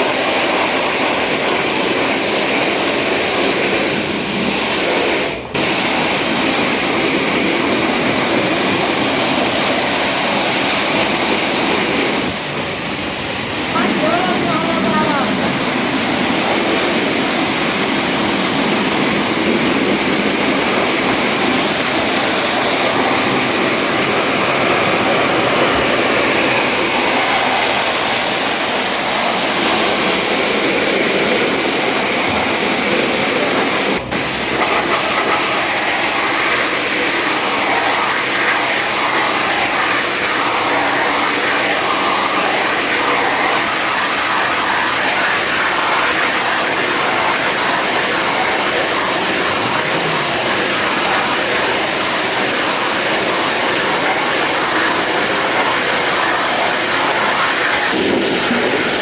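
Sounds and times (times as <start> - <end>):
loud rushing hiss: 0.0 - 59.0.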